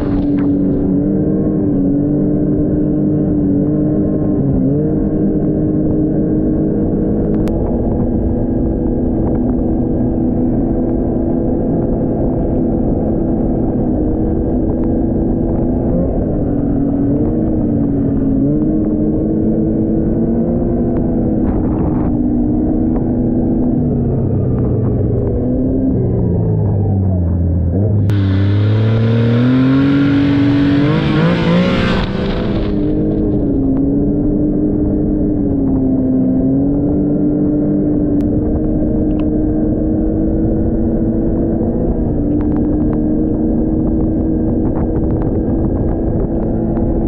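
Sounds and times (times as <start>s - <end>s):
snowmobile engine running: 0.0s - 47.0s.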